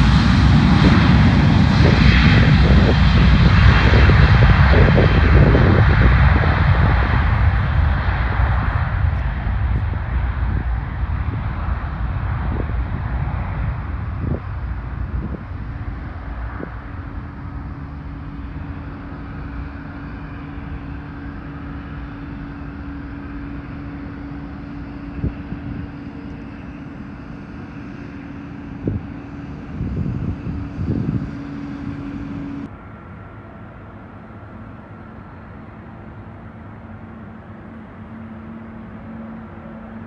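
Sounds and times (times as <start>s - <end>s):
jet engines rumbling: 0.0s - 40.0s
low hum: 0.0s - 40.0s.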